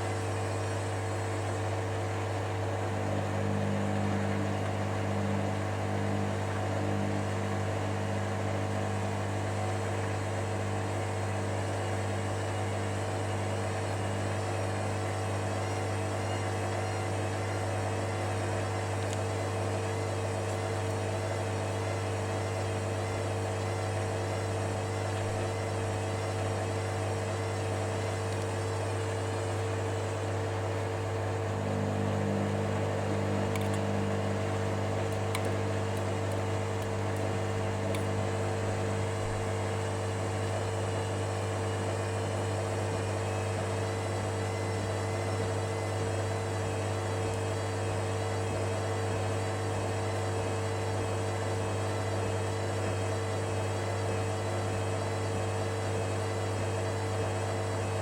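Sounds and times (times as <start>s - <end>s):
washer-dryer humming: 0.0s - 58.0s.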